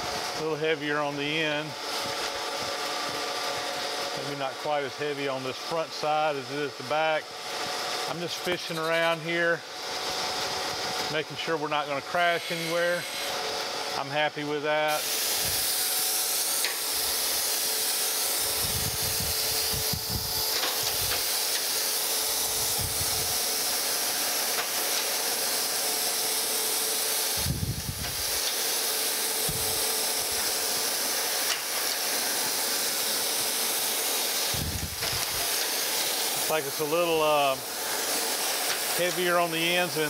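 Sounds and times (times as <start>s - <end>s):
grinding wheel hiss: 0.0s - 40.0s.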